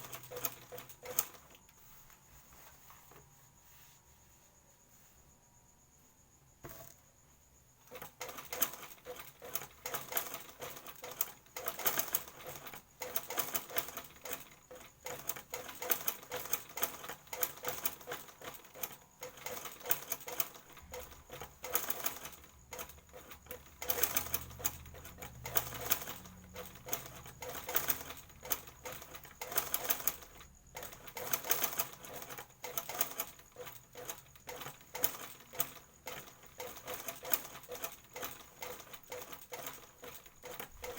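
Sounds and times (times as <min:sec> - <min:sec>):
sewing machine clattering: 0:00.0 - 0:01.6, 0:07.9 - 0:40.9.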